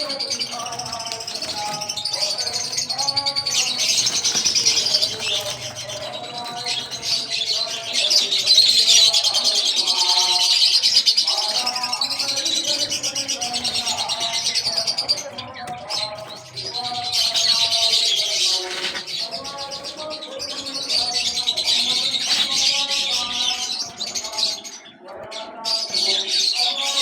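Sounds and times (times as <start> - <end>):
small birds chirping and tweeting: 0.0 - 27.0.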